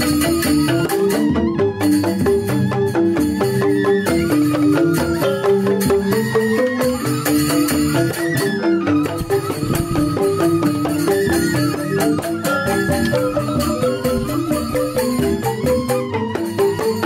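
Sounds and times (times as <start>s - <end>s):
bamboo xylophones playing fast patterns: 0.0s - 17.0s.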